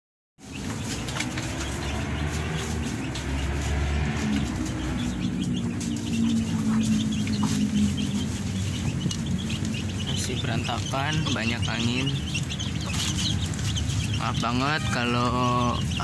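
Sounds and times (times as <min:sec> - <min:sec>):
chickens clucking and chirping: 0:00.4 - 0:16.0
steady low rumble: 0:00.8 - 0:14.6.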